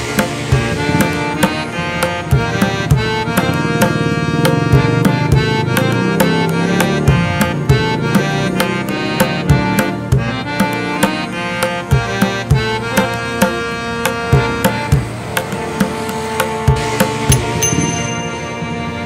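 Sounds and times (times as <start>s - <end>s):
hand-drum rhythm: 0.0s - 19.0s
sustained melodic instrument: 0.0s - 19.0s.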